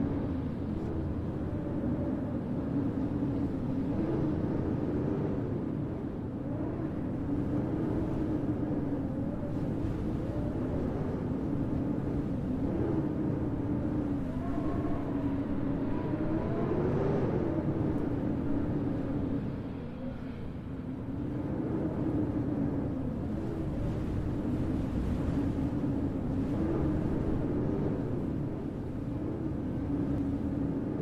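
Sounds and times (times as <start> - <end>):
howling blizzard wind: 0.0 - 31.0.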